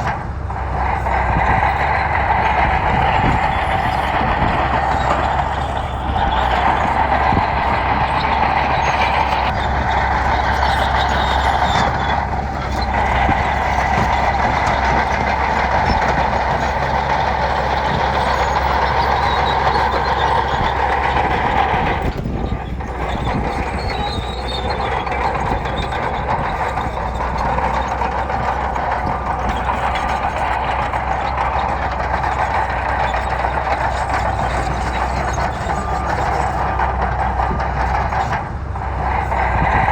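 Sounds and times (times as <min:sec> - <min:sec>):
bulldozer working on gravel: 0:00.0 - 0:39.9.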